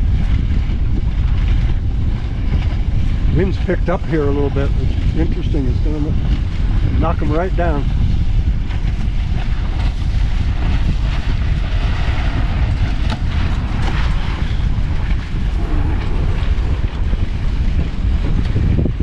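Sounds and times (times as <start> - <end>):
choppy water splashing: 0.0 - 19.0
wind buffeting microphone: 0.0 - 19.0.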